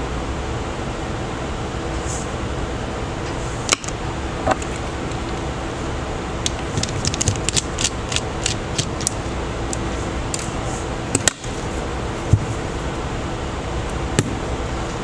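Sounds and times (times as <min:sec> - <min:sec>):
fan-like hum: 0:00.0 - 0:15.0.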